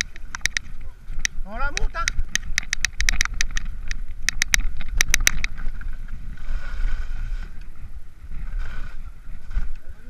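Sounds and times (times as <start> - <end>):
bike clicking and rattling: 0.0 - 10.0
wind: 0.0 - 10.0.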